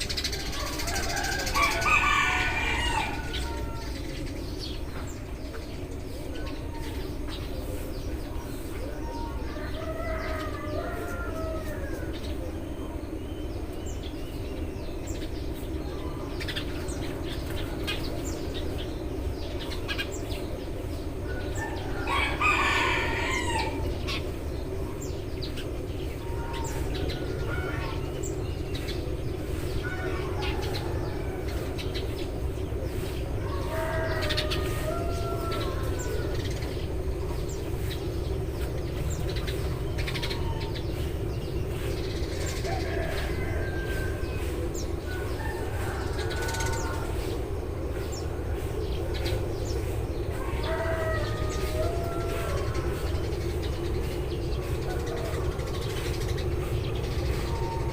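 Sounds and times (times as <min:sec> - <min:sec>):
loud long bird call: 0:00.0 - 0:57.9
low background hum: 0:00.0 - 0:57.9
sparrows chirping: 0:00.0 - 0:57.9.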